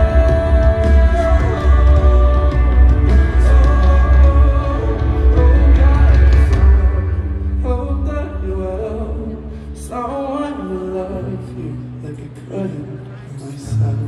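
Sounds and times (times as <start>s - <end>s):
live pop ballad through speakers: 0.0s - 14.0s.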